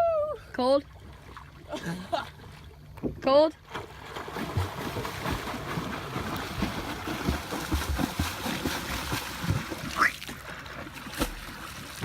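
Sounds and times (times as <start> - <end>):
water splashing and sloshing: 0.4 - 12.0.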